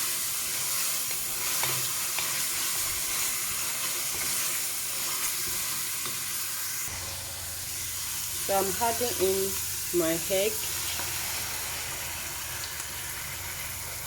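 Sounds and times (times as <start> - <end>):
pepper sizzling in oil: 0.0 - 14.0.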